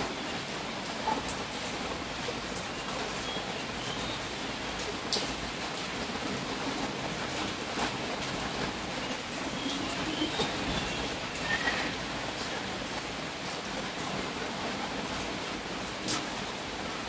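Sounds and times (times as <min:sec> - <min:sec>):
raindrops ticking nearby: 0:00.0 - 0:17.0
steady rain falling: 0:00.0 - 0:17.0.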